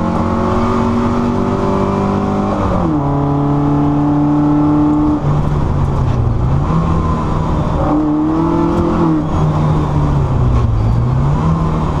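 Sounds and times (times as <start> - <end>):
car engine revving: 0.0 - 12.0
road and wind noise: 0.0 - 12.0.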